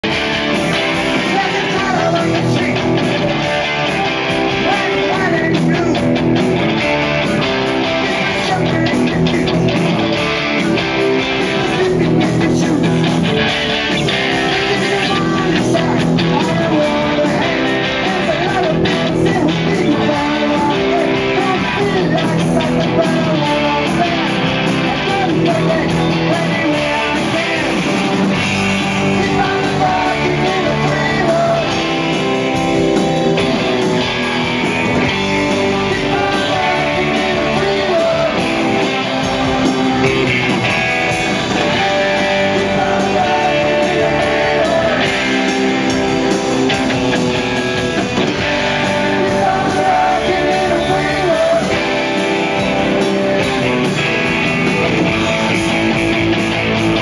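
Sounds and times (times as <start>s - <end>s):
person singing: 0.0s - 47.2s, 48.0s - 55.8s
bass guitar: 0.0s - 57.0s
drums: 0.0s - 57.0s
electric guitars: 0.0s - 57.0s.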